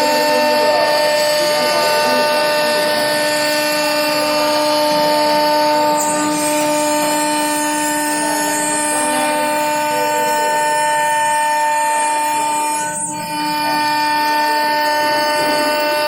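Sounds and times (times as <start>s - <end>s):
router spindle whine: 0.0s - 16.0s.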